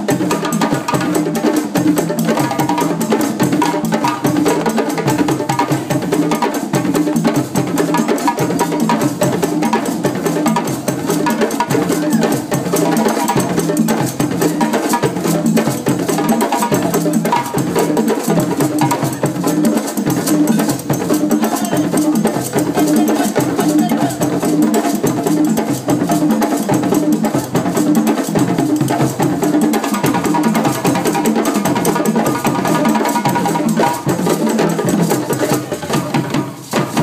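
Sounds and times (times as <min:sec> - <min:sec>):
djembe drums played by hand: 0:00.0 - 0:37.0.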